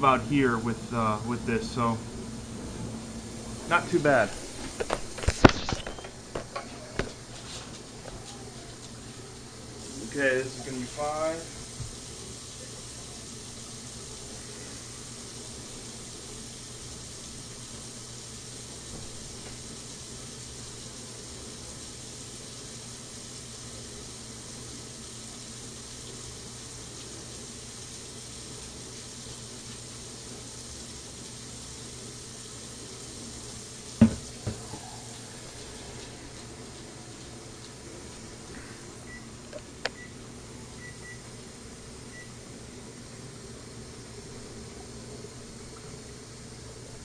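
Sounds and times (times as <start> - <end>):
water running: 0.0 - 47.0.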